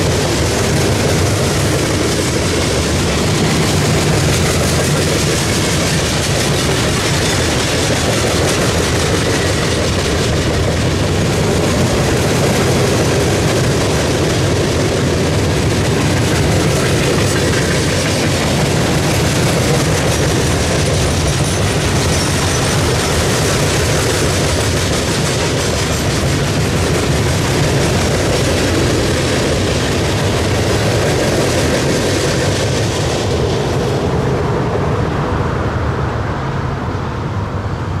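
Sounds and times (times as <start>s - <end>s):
freight train rolling on rails: 0.0s - 38.0s.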